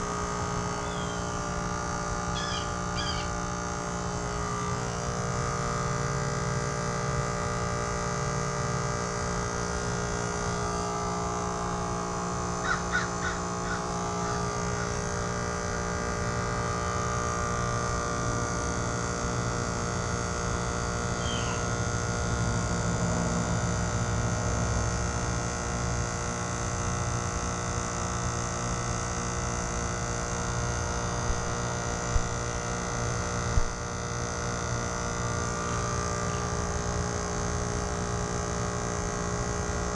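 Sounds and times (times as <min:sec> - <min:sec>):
heat pump compressor hum: 0:00.0 - 0:39.9.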